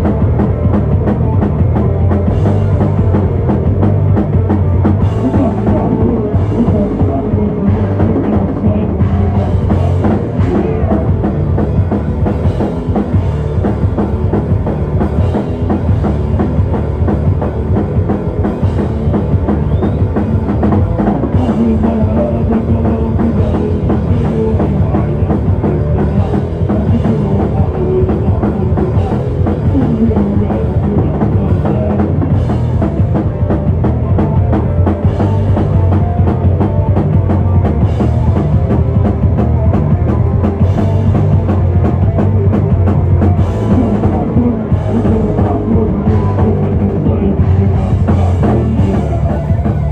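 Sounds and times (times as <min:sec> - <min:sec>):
bass guitar: 0:00.0 - 0:49.9
distorted guitars: 0:00.0 - 0:49.9
pounding drum kit: 0:00.0 - 0:49.9.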